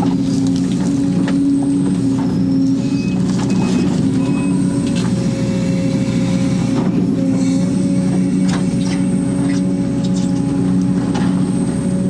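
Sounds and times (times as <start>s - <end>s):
excavator diesel engine running: 0.0s - 12.0s
hydraulics working: 0.0s - 12.0s.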